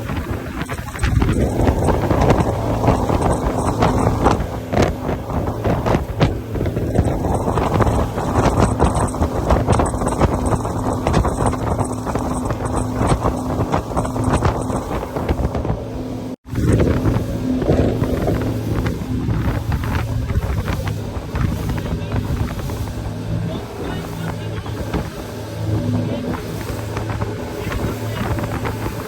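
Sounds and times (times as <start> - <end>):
speedboat engine hum: 0.0 - 29.0
wind buffeting microphone: 0.0 - 29.0.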